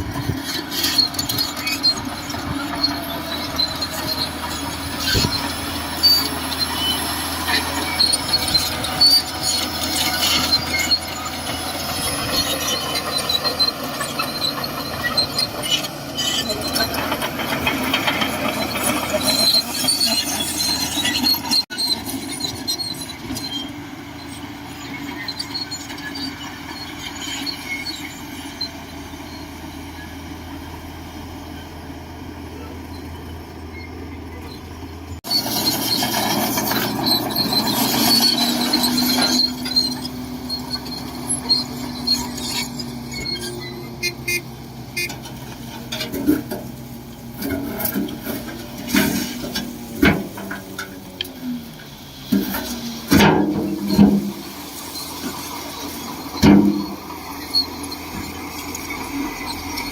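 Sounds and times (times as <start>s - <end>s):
high metallic squeaks: 0.0s - 30.4s, 32.8s - 59.9s
bulldozer diesel engine running: 0.0s - 59.9s.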